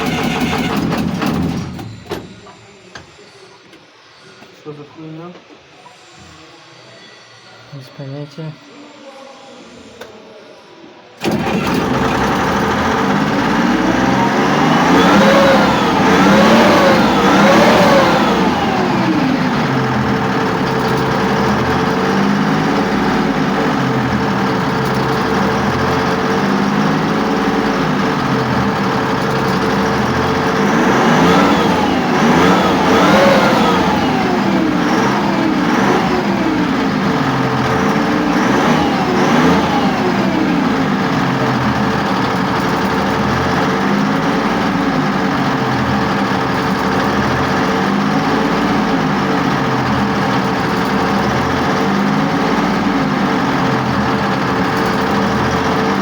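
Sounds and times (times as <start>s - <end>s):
diesel engine revving and idling: 0.0s - 2.8s, 11.2s - 56.0s.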